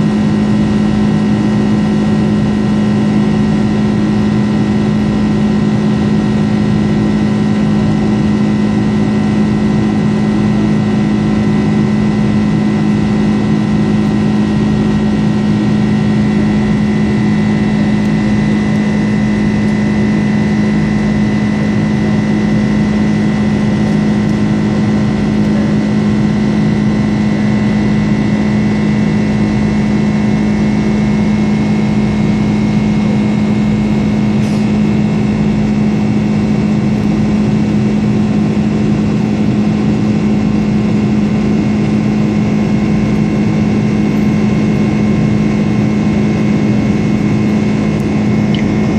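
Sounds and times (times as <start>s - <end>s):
jet engine cabin drone: 0.0s - 48.9s.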